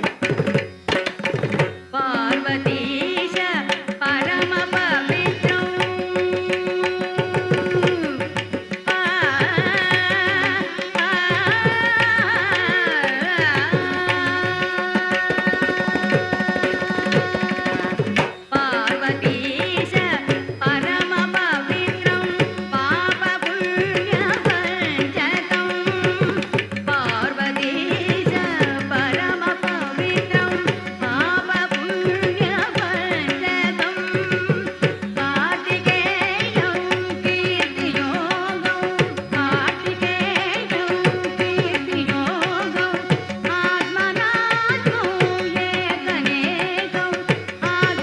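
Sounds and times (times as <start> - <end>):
hand drum percussion: 0.0 - 48.0.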